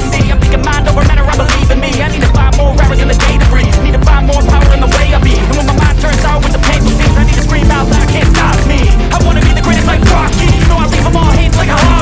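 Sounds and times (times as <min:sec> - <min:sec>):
music with beat and vocals: 0:00.0 - 0:12.0.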